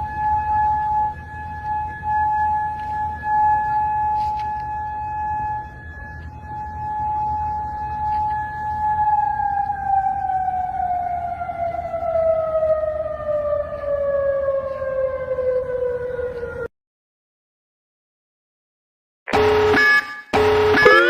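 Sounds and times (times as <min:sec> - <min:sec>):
warning siren tone: 0:00.0 - 0:16.7, 0:19.3 - 0:21.0.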